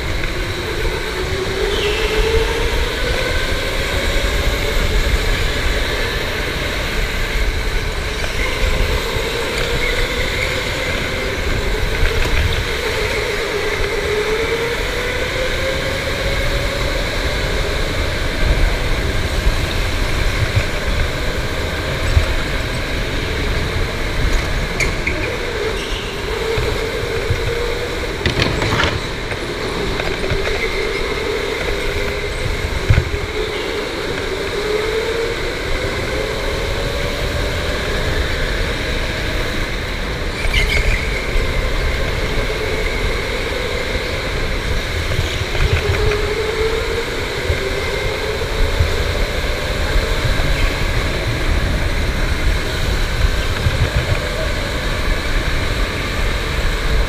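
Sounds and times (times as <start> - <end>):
go-kart motor whine: 0.0 - 57.0
kart rumbling on concrete: 0.0 - 57.0.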